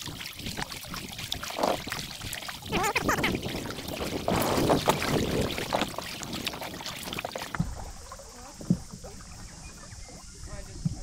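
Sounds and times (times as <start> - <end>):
paddle splashing in water: 0.0 - 11.0
water sloshing around hull: 0.0 - 11.0.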